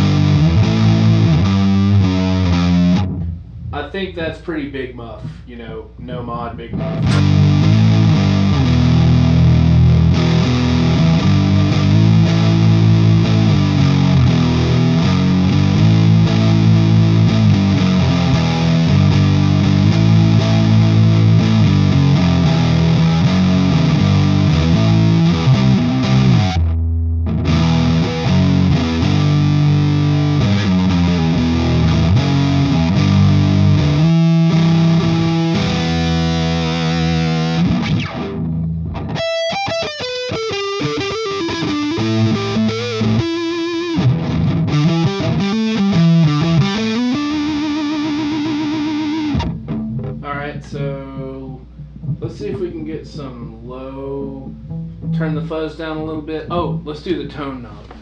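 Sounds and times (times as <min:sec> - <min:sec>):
fuzzed electric guitar chords: 0:00.0 - 0:04.6, 0:05.2 - 0:56.9.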